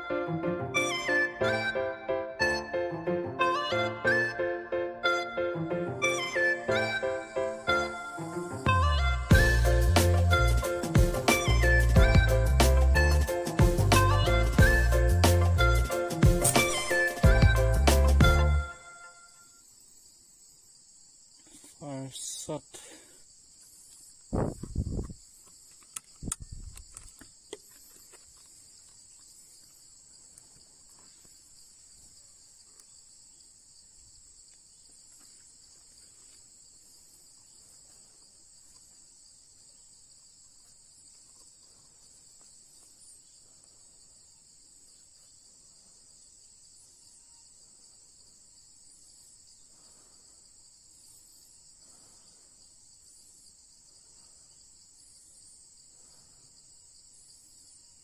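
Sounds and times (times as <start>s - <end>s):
high-pitched insect chorus: 4.1s - 58.0s.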